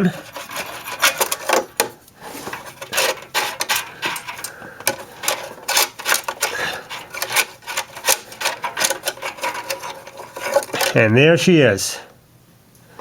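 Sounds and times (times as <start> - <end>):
wrench metal clicks and scrapes: 0.0 - 11.0.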